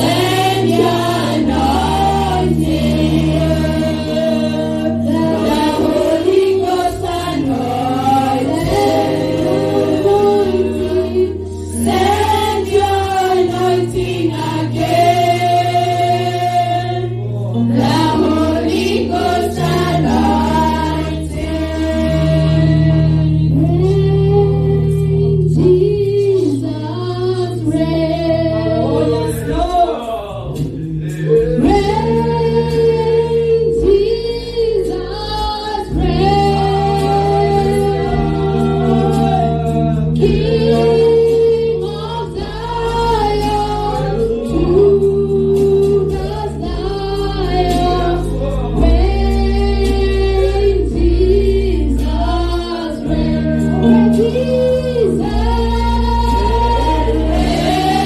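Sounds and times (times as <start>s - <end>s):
choir singing gospel: 0.0s - 58.0s
sustained low bass notes: 0.0s - 58.0s.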